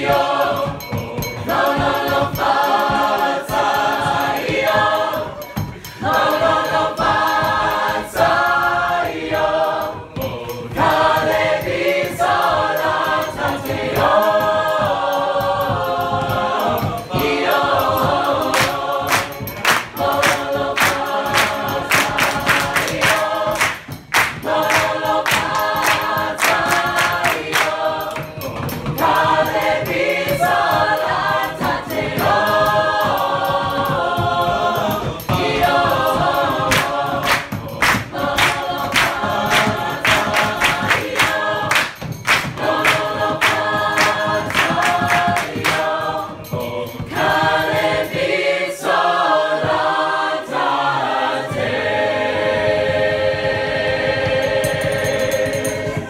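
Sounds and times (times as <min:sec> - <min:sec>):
group singing in harmony: 0:00.0 - 0:56.0
rhythmic hand clapping: 0:00.0 - 0:56.0.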